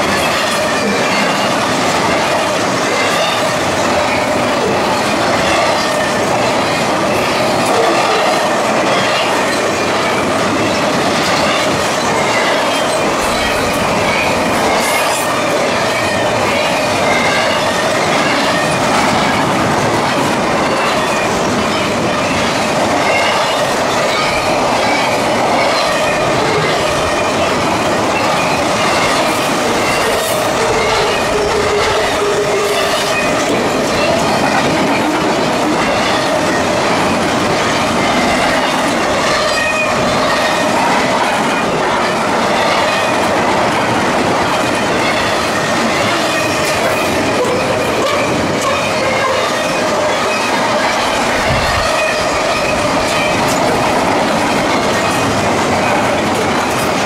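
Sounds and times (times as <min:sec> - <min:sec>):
ringing tone from wheels: 0:00.0 - 0:43.4, 0:44.5 - 0:56.2
freight train wheels rushing: 0:00.0 - 0:57.0.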